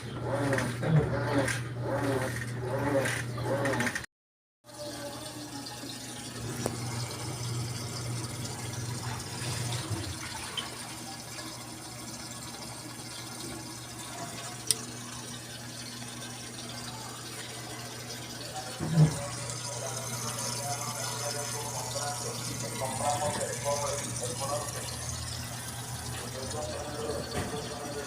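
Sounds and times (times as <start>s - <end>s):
water rushing into washing machine: 0.0s - 4.1s, 4.7s - 28.0s.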